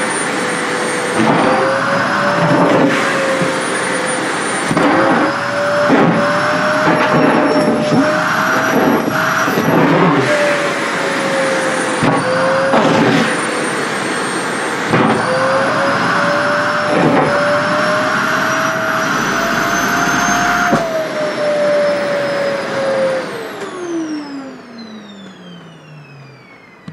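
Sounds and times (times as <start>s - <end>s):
vacuum cleaner motor whine: 0.0s - 26.9s.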